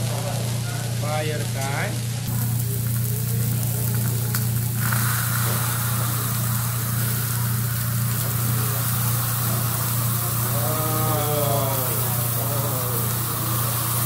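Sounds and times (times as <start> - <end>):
food sizzling on griddle: 0.0 - 14.0
voices: 0.0 - 14.0.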